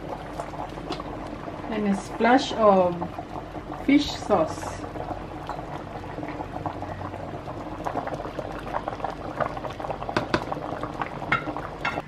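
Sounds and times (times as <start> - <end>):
soup bubbling at a boil: 0.0 - 12.0.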